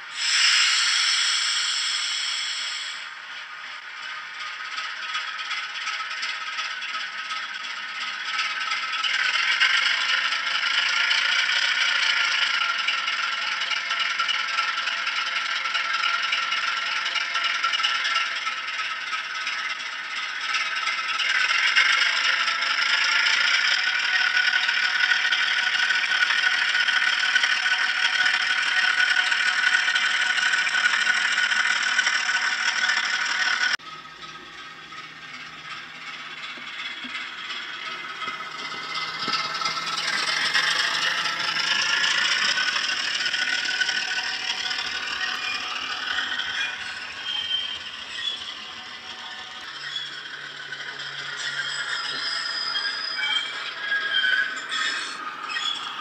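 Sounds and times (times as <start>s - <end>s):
diesel engine through small speaker: 7.5s - 56.0s.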